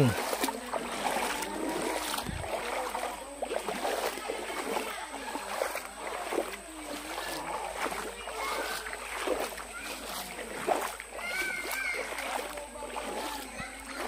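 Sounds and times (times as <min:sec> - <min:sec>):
people talking and calling: 0:00.0 - 0:14.0
river water splashing over rocks: 0:00.0 - 0:14.0.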